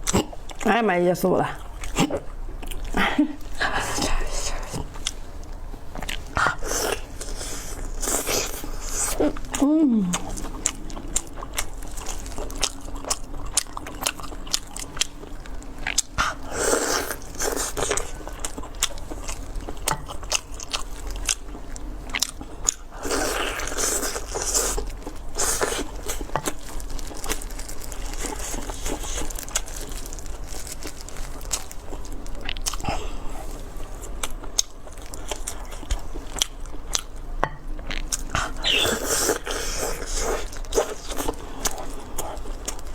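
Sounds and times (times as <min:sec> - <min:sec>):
crunchy bites and chewing: 0:05.9 - 0:42.9.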